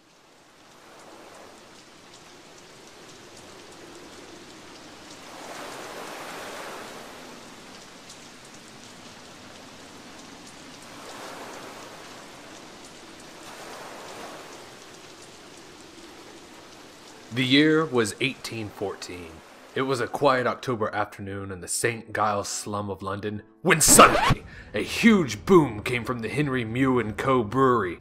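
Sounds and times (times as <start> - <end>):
steady rain patter: 0.0 - 22.8, 23.7 - 28.0.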